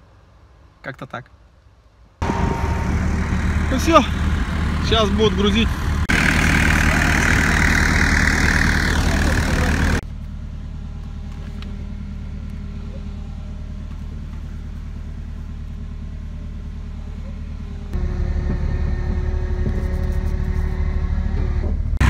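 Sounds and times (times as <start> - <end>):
falling whine: 2.2 - 22.0
muffled truck and winch hum: 2.2 - 22.0
truck engine and hydraulics: 2.2 - 22.0.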